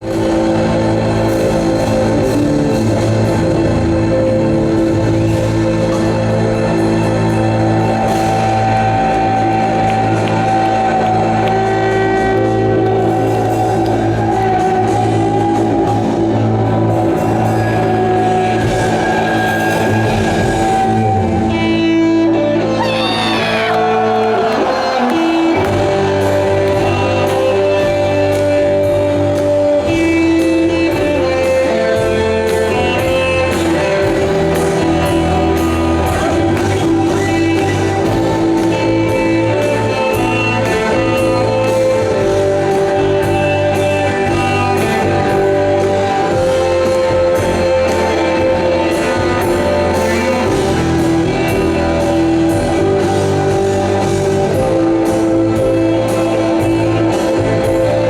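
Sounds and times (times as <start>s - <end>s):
electric guitar: 0.0s - 58.0s
live rock band: 0.0s - 58.0s.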